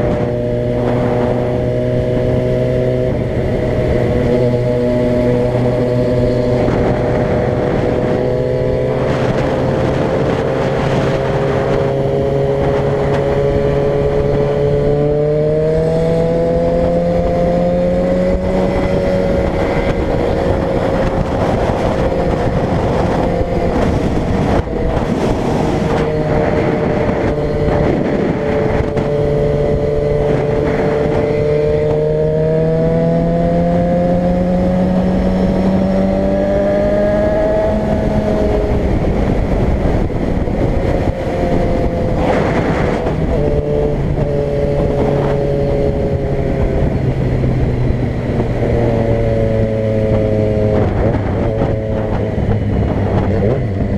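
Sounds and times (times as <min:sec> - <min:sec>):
car engine while driving: 0:00.0 - 0:53.9
road noise: 0:00.0 - 0:53.9.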